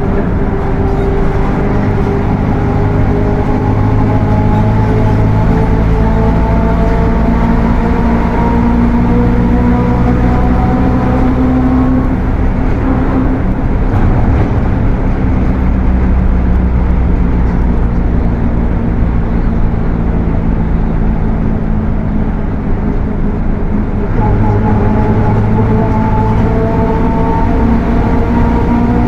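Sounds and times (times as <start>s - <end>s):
bus diesel engine running: 0.0s - 29.0s
transmission droning loudly: 0.0s - 29.0s.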